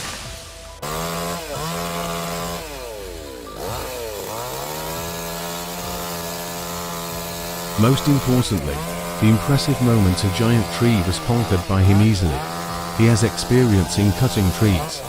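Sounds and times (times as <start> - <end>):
two-stroke chainsaw running: 0.0 - 15.0.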